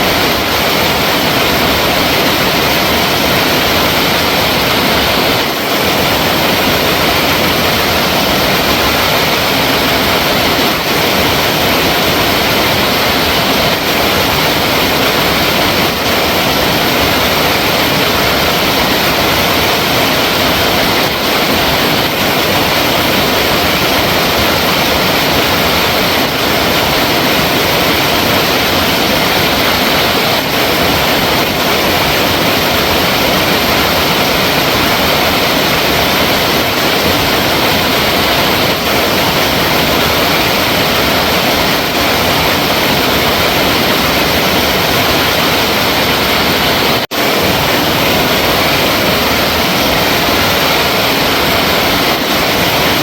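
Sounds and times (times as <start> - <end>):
water rushing: 0.0 - 53.0.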